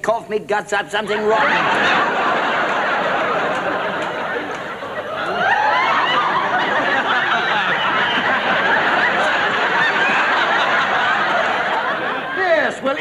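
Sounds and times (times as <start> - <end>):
studio audience laughing: 1.1 - 13.0.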